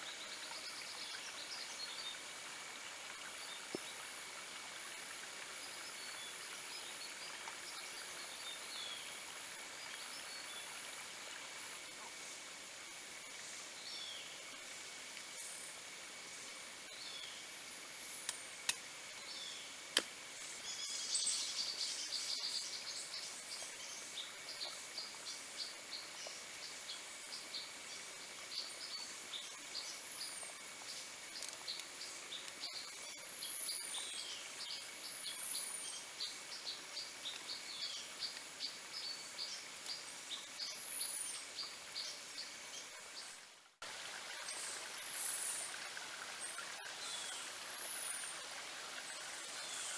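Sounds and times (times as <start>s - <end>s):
insect drone: 0.1s - 43.3s, 43.9s - 49.9s.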